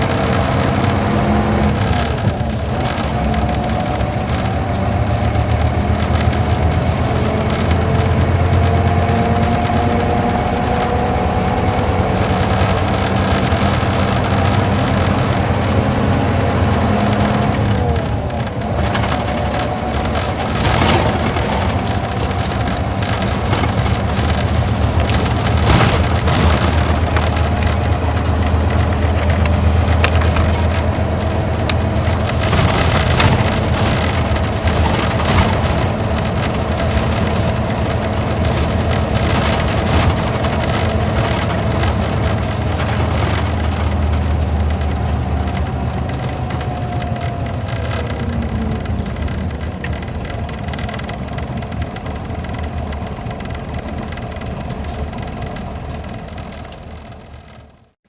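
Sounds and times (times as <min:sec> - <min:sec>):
rattling clicks: 0:00.0 - 0:57.8
diesel bus engine droning: 0:00.0 - 0:57.9
road noise: 0:00.0 - 0:58.0.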